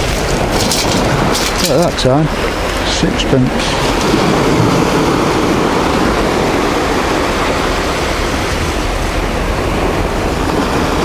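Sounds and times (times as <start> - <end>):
surf: 0.0 - 11.0
wind rushing: 0.0 - 11.0.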